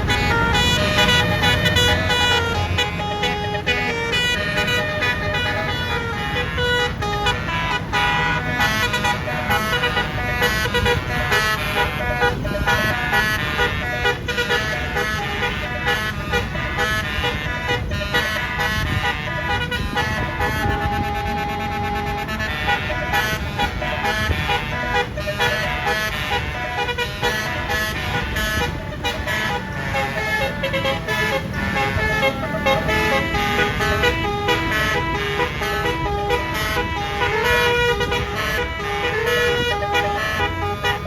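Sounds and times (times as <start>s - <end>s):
bus horn playing a tune: 0.0s - 41.0s
low engine rumble: 0.0s - 41.0s.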